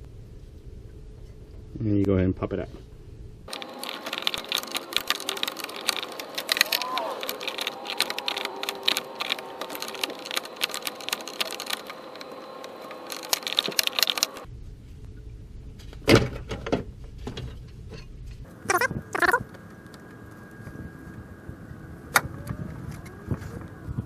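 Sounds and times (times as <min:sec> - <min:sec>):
low hum: 0:02.7 - 0:24.0.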